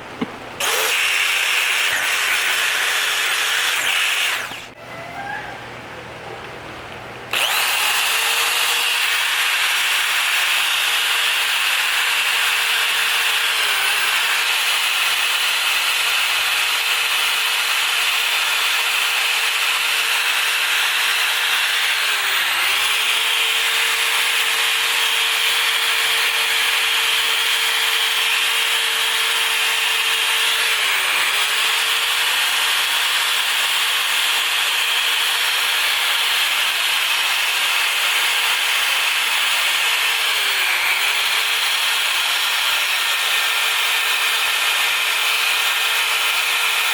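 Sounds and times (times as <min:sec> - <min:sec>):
power tool scouring rust off metal: 0:00.6 - 0:04.8, 0:07.3 - 0:46.9.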